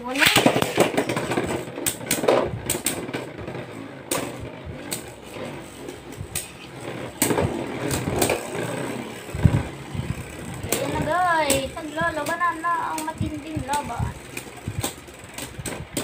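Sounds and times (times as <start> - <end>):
spinning tops whirring: 0.0 - 16.0
spinning tops clacking together: 0.1 - 16.0.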